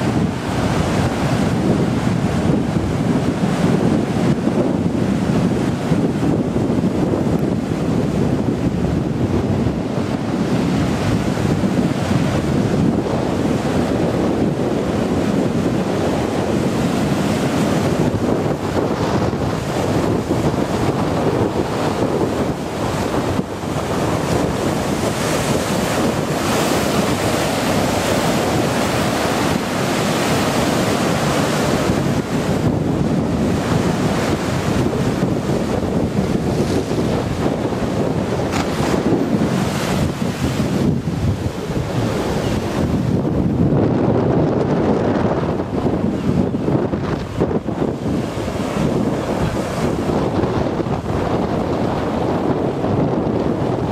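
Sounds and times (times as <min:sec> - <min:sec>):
rush of surf and foam: 0:00.0 - 0:53.9
waves breaking over a sea wall: 0:00.0 - 0:53.9
wind buffeting microphone: 0:00.0 - 0:53.9.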